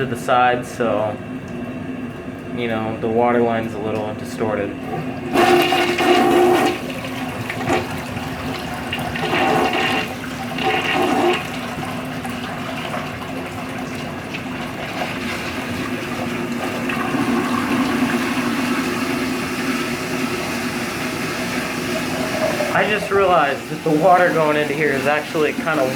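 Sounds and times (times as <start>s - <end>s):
toilet flushing: 0.0s - 25.9s
water running as tank refills: 0.0s - 25.9s.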